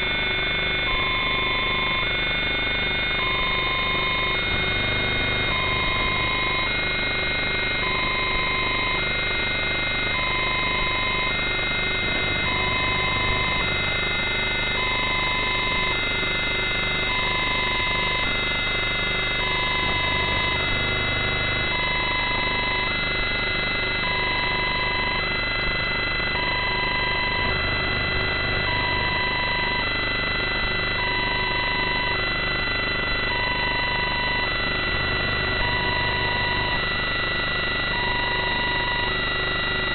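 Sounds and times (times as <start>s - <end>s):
electronic hiss and whine: 0.0s - 39.9s
two-tone electronic alarm beeping: 0.0s - 39.9s.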